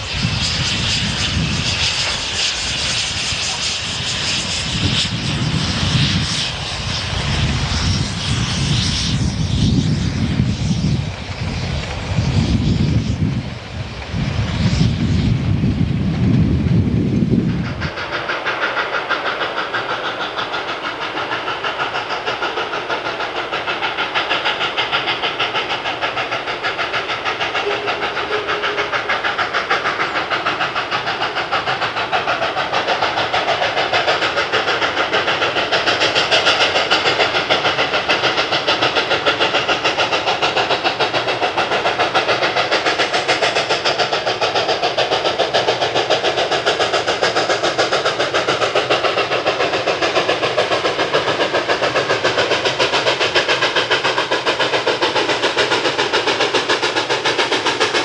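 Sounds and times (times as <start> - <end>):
steam hiss: 0.0 - 58.0
steam locomotive chuffing: 0.0 - 58.0.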